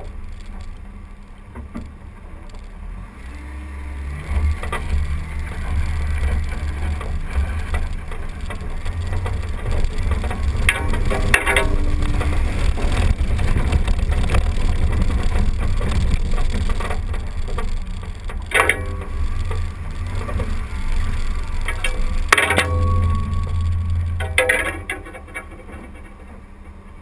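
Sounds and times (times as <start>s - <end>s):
vehicle engine rumble: 0.0s - 27.0s
knocks and rattles over bumps: 4.0s - 27.0s.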